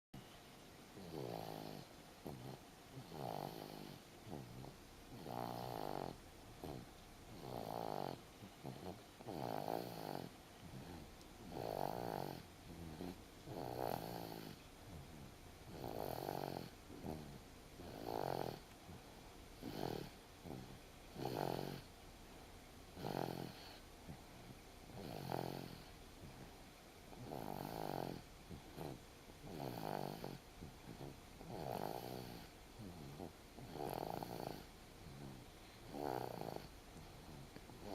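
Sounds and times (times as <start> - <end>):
soft breaths: 0.2 - 37.9
rasping snores: 1.0 - 18.6, 19.6 - 21.9, 23.0 - 23.8, 24.9 - 26.5, 27.1 - 37.9.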